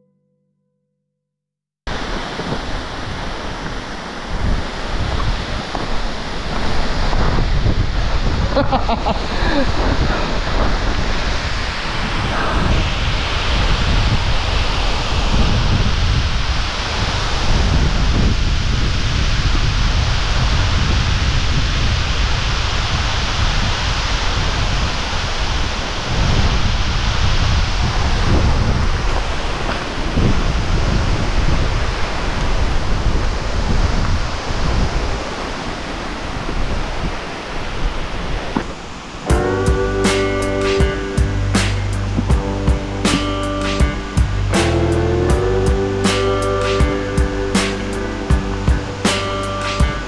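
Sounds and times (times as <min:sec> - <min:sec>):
rush of falling water: 0:01.9 - 0:50.0
wind buffeting microphone: 0:01.9 - 0:50.0.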